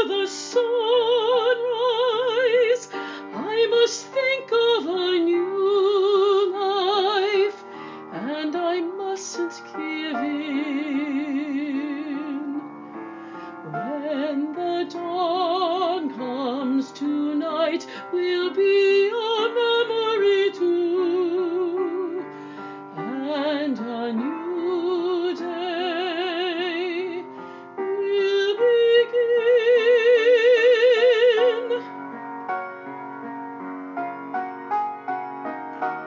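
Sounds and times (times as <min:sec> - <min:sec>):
woman singing a slow ballad: 0:00.0 - 0:12.7, 0:13.6 - 0:31.9
piano accompaniment: 0:00.0 - 0:36.0.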